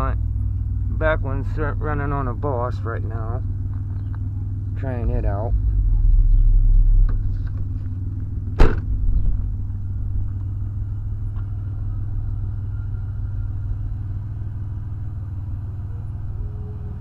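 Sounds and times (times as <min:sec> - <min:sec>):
low rumble in car: 0:00.0 - 0:17.0.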